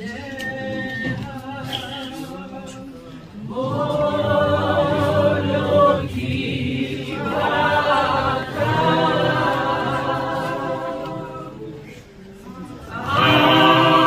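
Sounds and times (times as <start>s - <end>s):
group singing in harmony: 0.0s - 14.0s.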